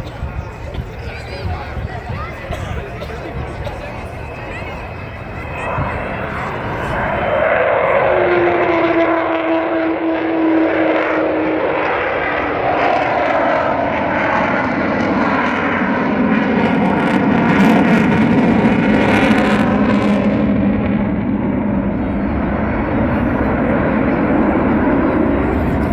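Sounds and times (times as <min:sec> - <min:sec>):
jet intake howl: 0:00.0 - 0:14.0, 0:16.2 - 0:25.9
jet aircraft flypast: 0:00.0 - 0:25.9.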